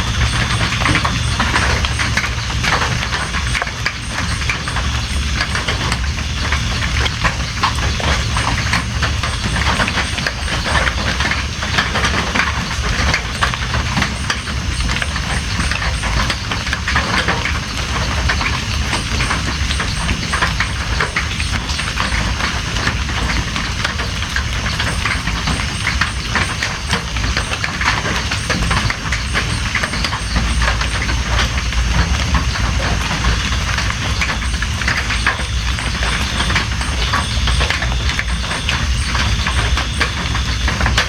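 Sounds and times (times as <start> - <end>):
rain drops ticking: 0.0 - 41.0.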